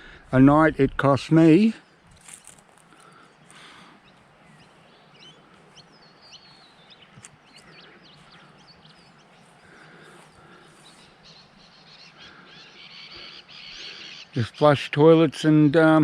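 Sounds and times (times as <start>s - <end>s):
birds chirping: 0.0s - 16.0s
faint outdoor background noise: 0.0s - 16.0s.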